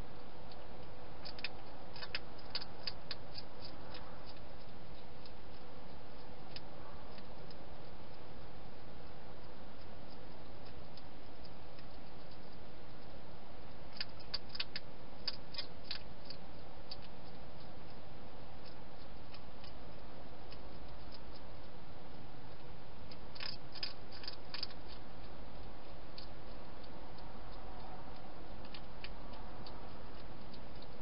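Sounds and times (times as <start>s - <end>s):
hedgehog crunching dry food: 0.0s - 31.0s
steady background hiss: 0.0s - 31.0s.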